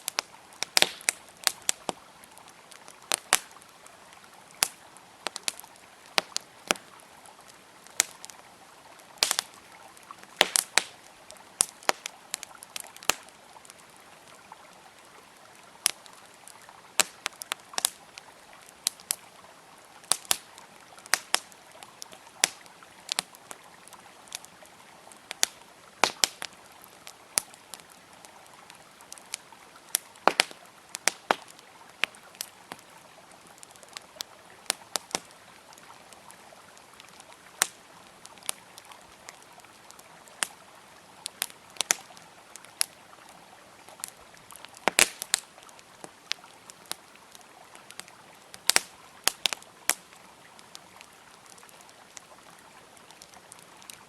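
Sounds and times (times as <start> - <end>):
river flowing: 0.0 - 54.0
wood fire crackling and popping: 0.0 - 54.0.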